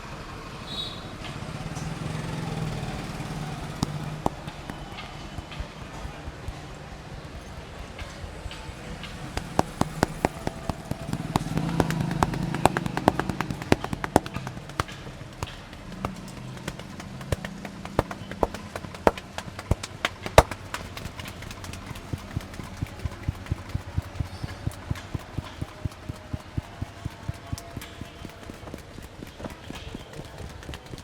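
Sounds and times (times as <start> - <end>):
hands slapping during massage: 2.8 - 31.0.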